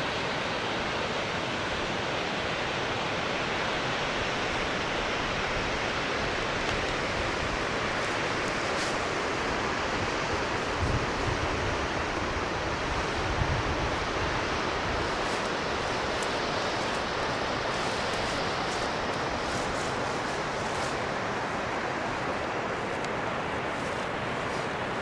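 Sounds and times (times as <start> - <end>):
streams and waterfalls rushing: 0.0 - 25.0.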